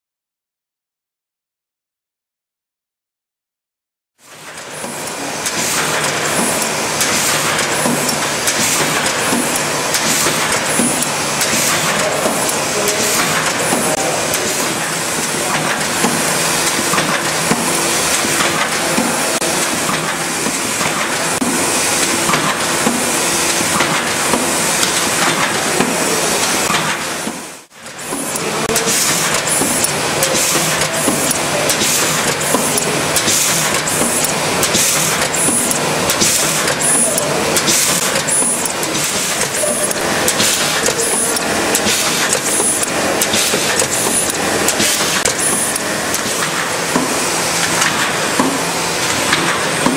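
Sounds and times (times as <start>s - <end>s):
laminating machine hiss and rattle: 4.2s - 49.9s.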